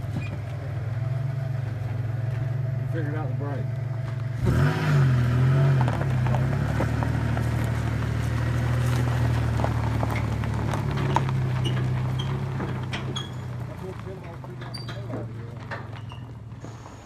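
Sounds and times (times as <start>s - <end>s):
engine revving and humming: 0.0s - 17.0s.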